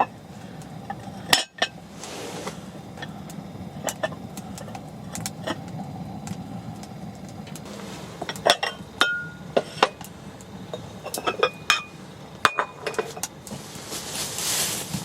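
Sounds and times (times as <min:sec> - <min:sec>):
hiss of noise: 0:00.0 - 0:15.0.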